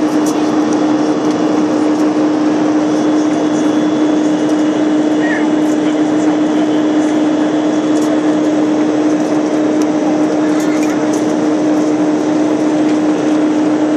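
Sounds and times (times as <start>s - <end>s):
airliner engines droning: 0.0s - 13.9s.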